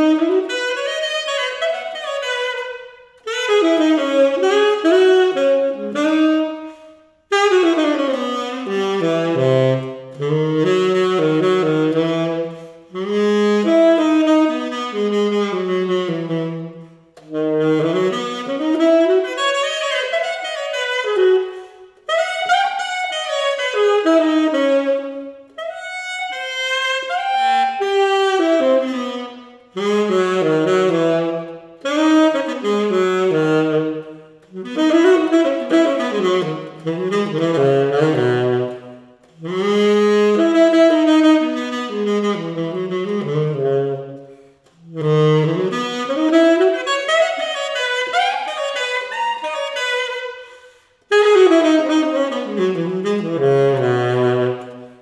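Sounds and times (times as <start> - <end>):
tenor saxophone solo: 0.0 - 55.0.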